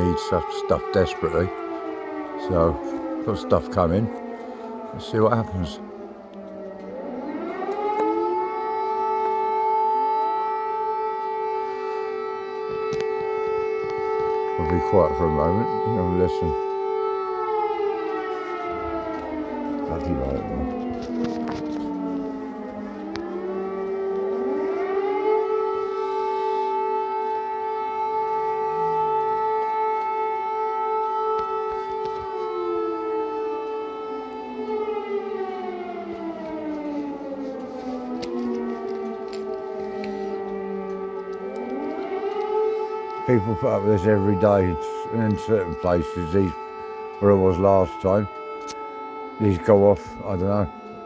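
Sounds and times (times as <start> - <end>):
air-raid sirens wailing: 0.0 - 51.0.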